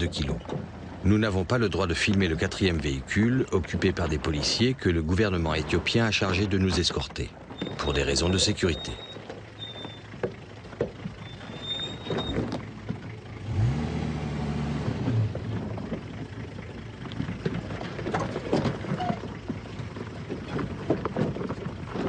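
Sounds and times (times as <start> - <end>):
vehicle engine labouring: 0.0 - 22.0
tyres crunching on stones: 1.9 - 13.2, 15.1 - 22.0.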